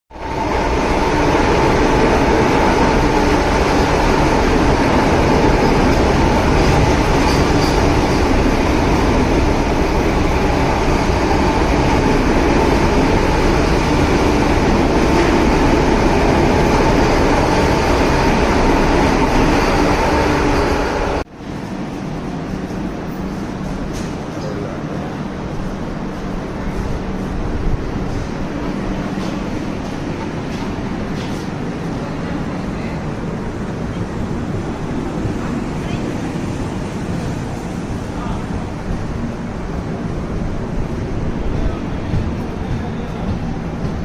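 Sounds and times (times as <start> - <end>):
steady train whine: 0.1 - 44.0
train rumbling: 0.1 - 44.0.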